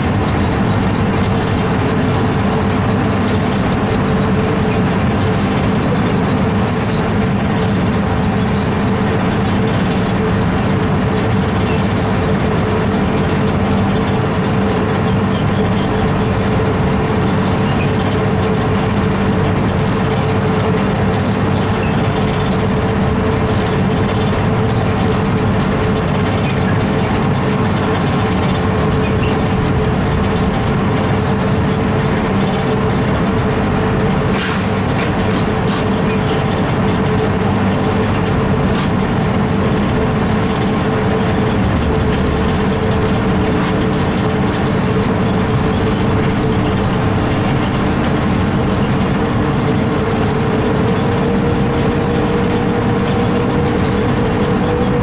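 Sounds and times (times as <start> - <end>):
locomotive hum: 0.0 - 55.0
train wheels rumbling on rails: 0.0 - 55.0.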